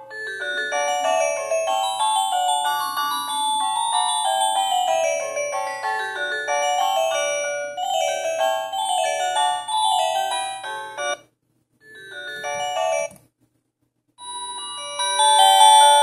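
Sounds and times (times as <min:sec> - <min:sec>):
phone ringtone melody: 0:00.0 - 0:11.2, 0:11.8 - 0:13.1, 0:14.2 - 0:16.0.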